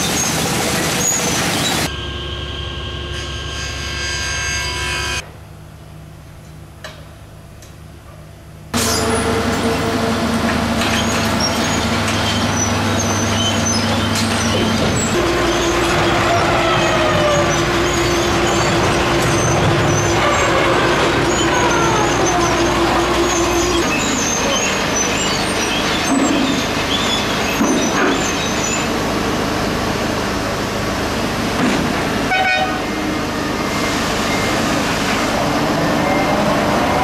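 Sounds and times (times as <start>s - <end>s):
train engines and machinery running: 0.0s - 37.0s.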